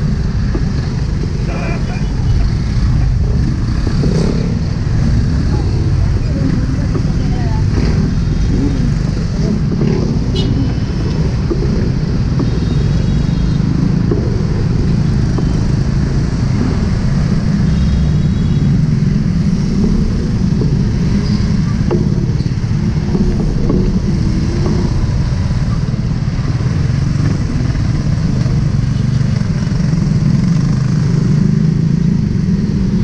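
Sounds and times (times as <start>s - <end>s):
traffic engines idling: 0.0s - 33.0s.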